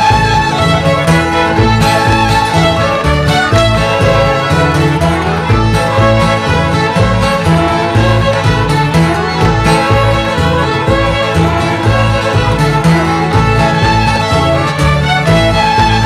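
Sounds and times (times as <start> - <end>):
fiddles playing a dance tune: 0.0 - 16.0
low bass notes: 0.0 - 16.0.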